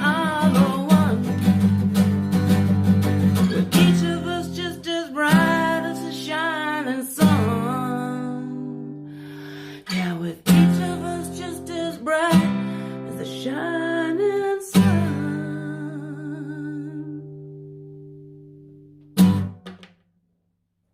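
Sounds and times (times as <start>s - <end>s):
acoustic guitar strumming: 0.0s - 16.2s, 17.2s - 20.0s.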